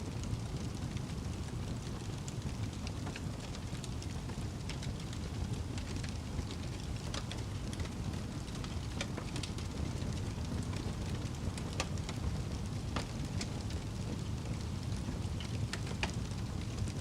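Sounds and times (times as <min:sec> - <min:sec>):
fire flames rumbling: 0:00.0 - 0:17.0
wood crackling and popping: 0:00.0 - 0:17.0.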